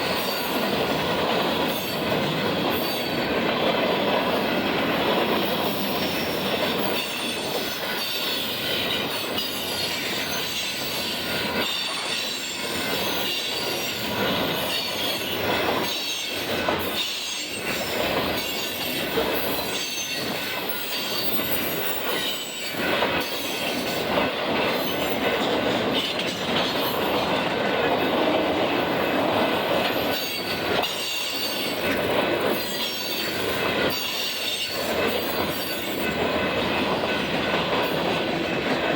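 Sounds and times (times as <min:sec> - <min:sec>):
clanks at rail joints: 0:00.0 - 0:38.9
train wheel squeal: 0:00.0 - 0:38.9.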